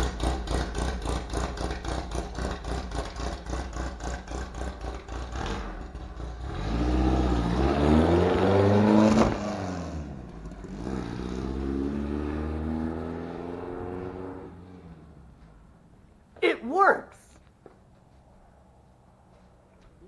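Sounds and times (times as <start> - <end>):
car engine idling and revving: 0.0 - 16.2.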